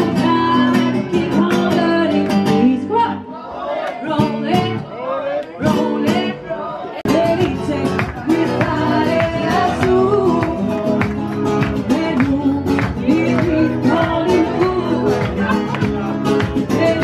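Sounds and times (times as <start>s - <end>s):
plucked acoustic guitar: 0.0s - 3.2s, 4.0s - 4.9s, 5.6s - 17.0s
person singing: 0.0s - 3.3s, 4.0s - 17.0s.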